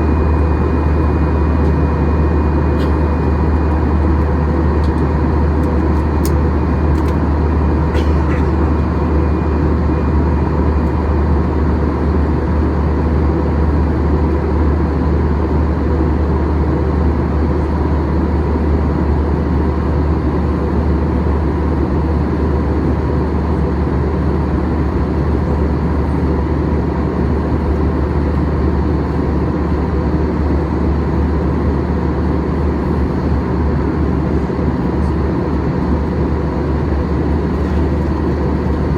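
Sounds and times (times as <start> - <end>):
aircraft cabin engine roar: 0.0 - 38.9.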